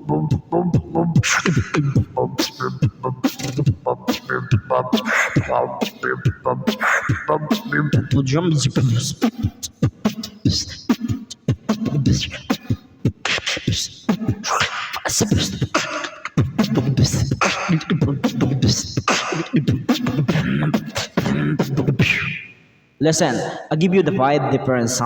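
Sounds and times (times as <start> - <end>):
man beatboxing: 0.0 - 25.0.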